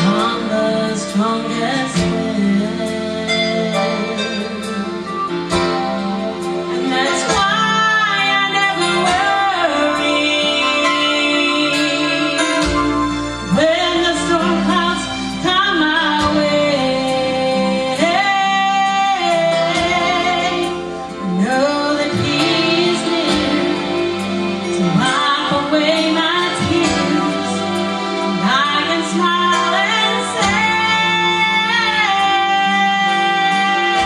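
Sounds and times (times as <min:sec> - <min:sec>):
instrumental accompaniment: 0:00.0 - 0:34.0
vocal group singing gospel: 0:06.7 - 0:34.0.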